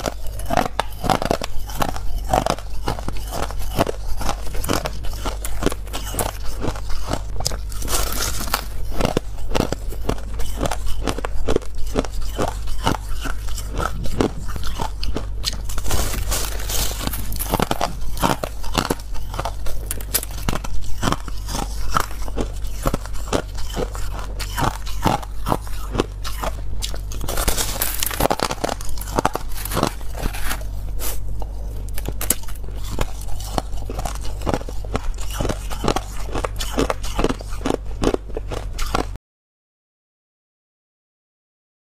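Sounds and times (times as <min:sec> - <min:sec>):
person crunching shaved ice: 0:00.0 - 0:39.2.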